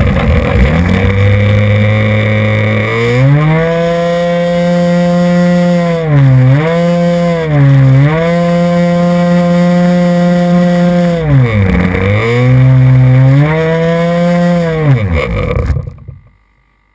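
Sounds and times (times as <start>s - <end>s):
model airplane engine running: 0.0s - 16.3s.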